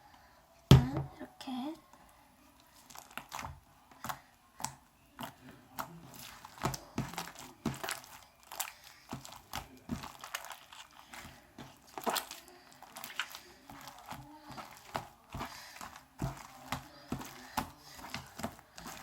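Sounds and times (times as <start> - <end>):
slime being kneaded by hand: 2.6 - 19.0.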